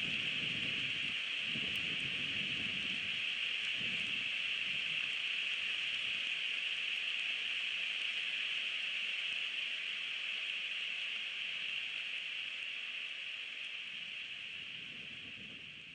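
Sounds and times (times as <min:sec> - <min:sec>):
steady rain: 0:00.0 - 0:15.9.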